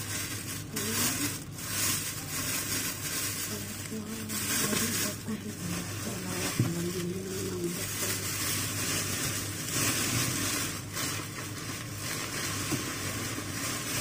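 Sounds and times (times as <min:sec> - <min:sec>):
low steady hum: 0:00.0 - 0:14.0
plastic bag rustling: 0:00.0 - 0:14.0.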